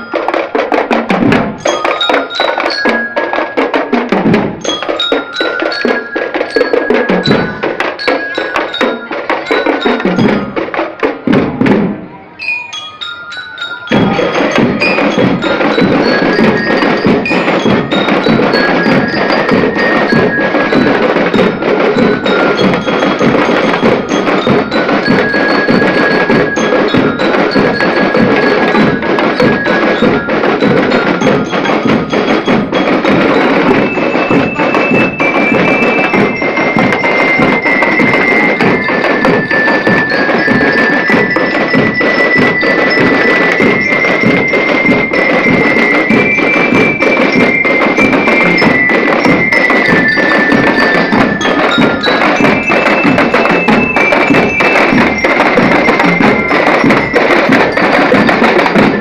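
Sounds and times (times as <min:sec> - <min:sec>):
steady drum beat: 0:00.0 - 0:12.1, 0:13.0 - 0:59.0
bell lyre melody: 0:01.6 - 0:11.3, 0:12.3 - 0:59.0.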